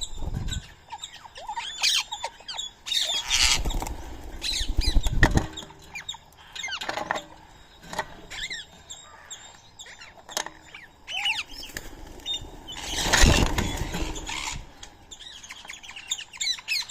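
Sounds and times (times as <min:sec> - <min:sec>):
birds chirping: 0:00.0 - 0:16.9.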